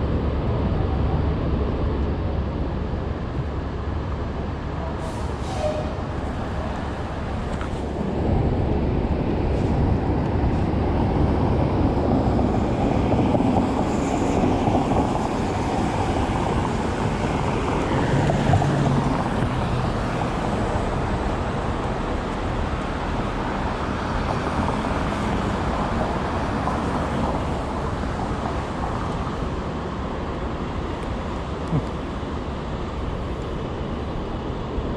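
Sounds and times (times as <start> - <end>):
low engine hum: 0.0 - 34.9
passing vehicles: 0.0 - 34.9.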